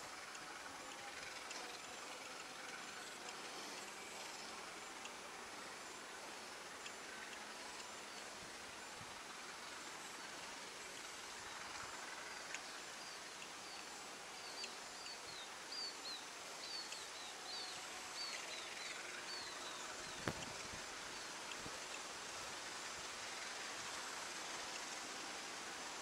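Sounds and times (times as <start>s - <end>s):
outdoor hiss: 0.0s - 26.0s.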